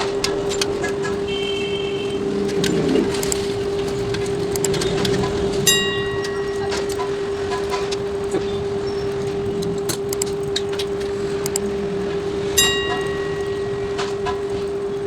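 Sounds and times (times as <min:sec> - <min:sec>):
mid-pitched hum: 0:00.0 - 0:15.0.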